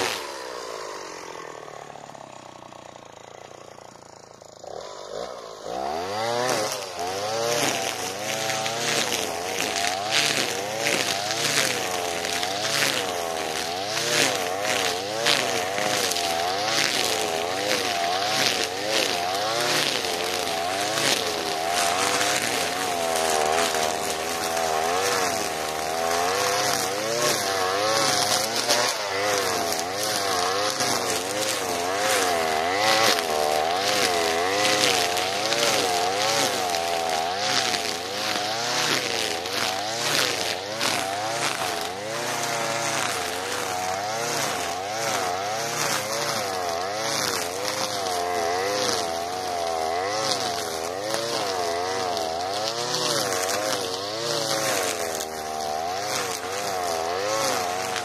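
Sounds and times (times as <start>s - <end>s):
brushcutter engine at high revs: 0.0s - 58.0s.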